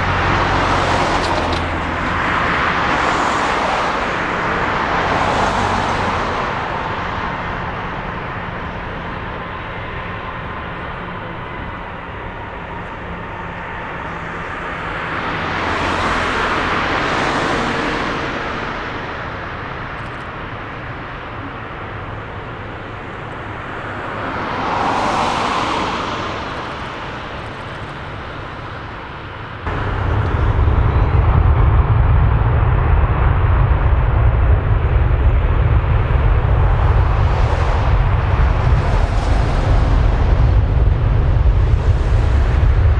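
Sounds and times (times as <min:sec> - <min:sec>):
jet engines at takeoff: 0:00.0 - 0:42.9
road vehicles passing: 0:00.0 - 0:42.9.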